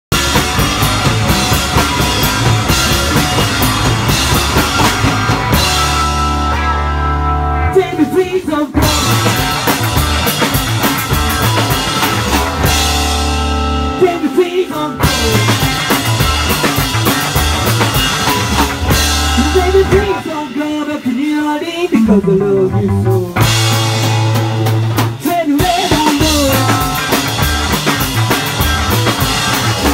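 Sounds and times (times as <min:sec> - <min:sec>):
rock band playing: 0:00.1 - 0:29.9.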